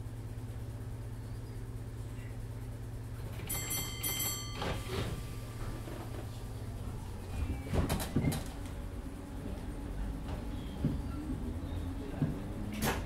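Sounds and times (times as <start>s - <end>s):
train low electrical hum: 0.0s - 13.0s.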